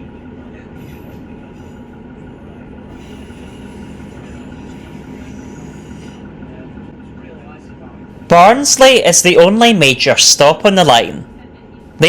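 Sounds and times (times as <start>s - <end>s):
wheel-on-rail rumble: 0.0s - 10.4s
diesel train drone: 0.0s - 12.0s.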